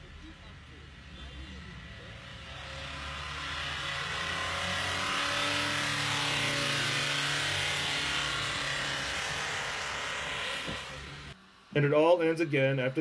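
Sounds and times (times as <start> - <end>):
diesel engine racing: 0.0 - 13.0.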